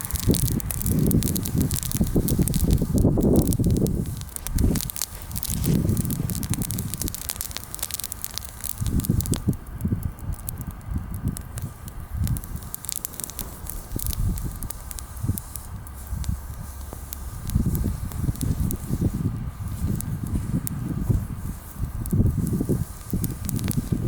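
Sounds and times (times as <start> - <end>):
bonfire crackling and popping: 0.0 - 24.0
low fire rumbling: 0.0 - 24.0.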